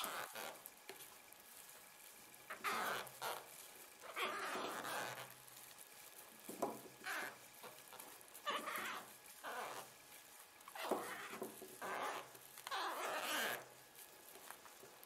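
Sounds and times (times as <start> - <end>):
dry moss rustling: 0.0 - 15.0.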